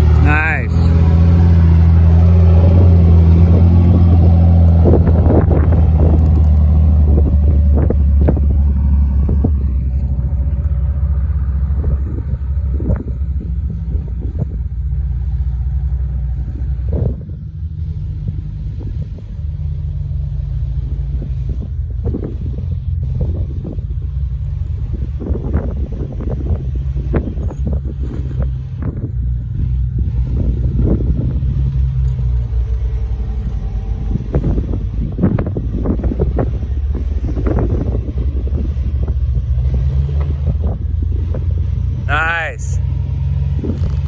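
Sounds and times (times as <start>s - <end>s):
off-road engine at low revs: 0.0s - 44.0s.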